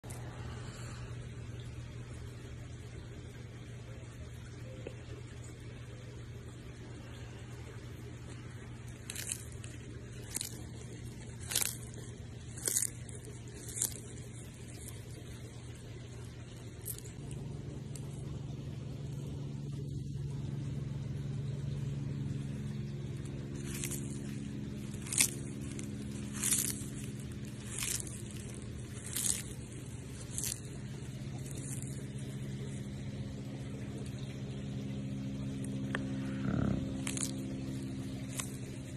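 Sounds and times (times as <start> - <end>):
steady low hum: 0.0 - 38.9
tortoise crunching leaves: 0.0 - 38.9.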